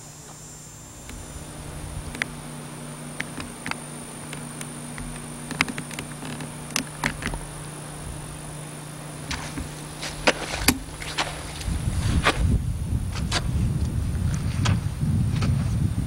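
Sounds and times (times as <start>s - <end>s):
steady low buzz: 0.0s - 16.0s
footsteps through bog shrubs: 1.0s - 14.5s.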